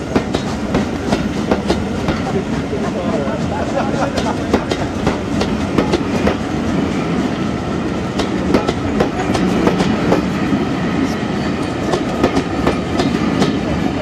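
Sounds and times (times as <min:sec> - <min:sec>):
train rumble: 0:00.0 - 0:14.0
train wheels clicking on rail joints: 0:00.0 - 0:14.0.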